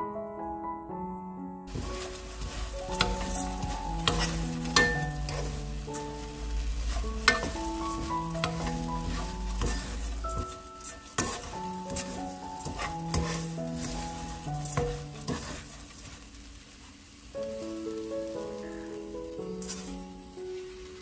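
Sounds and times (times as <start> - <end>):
soft background music: 0.0 - 21.0
spatulas scraping a wok: 1.7 - 17.3, 18.5 - 21.0.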